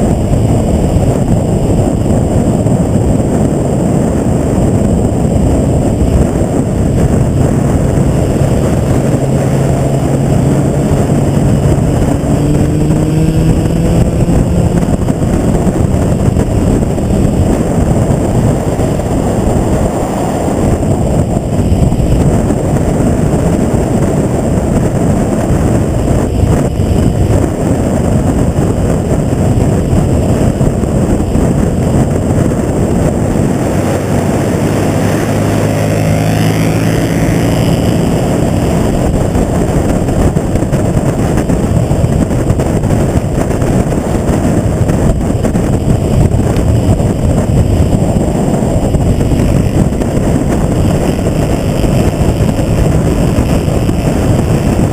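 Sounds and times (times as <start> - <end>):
motorcycle engine hum: 0.0 - 54.9
wind rush: 0.0 - 54.9.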